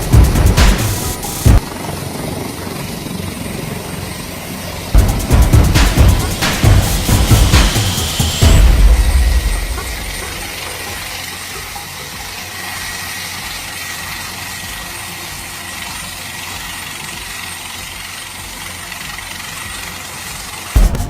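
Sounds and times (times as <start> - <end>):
machine running hiss: 0.0 - 1.6, 5.0 - 21.0.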